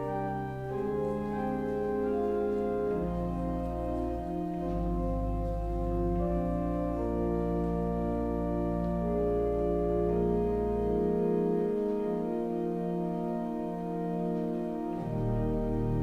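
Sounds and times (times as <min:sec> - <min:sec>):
deep organ pedal notes: 0:00.0 - 0:16.0
organ playing sustained chords: 0:00.0 - 0:16.0.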